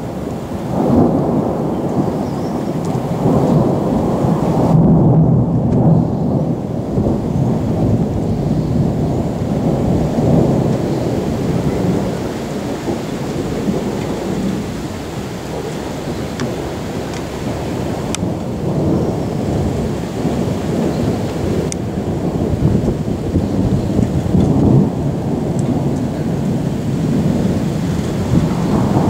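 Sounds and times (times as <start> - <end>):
rain hissing: 0.0 - 29.0
rolling thunder: 0.0 - 29.0.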